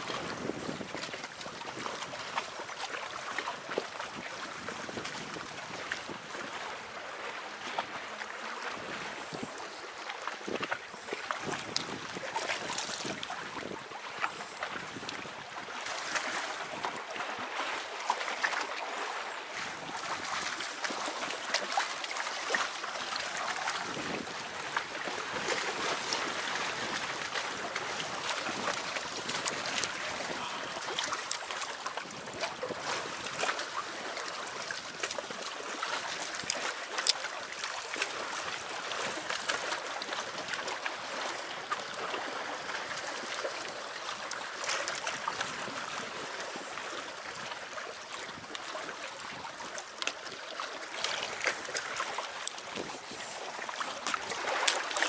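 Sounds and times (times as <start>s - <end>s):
small waves lapping: 0.0s - 55.0s.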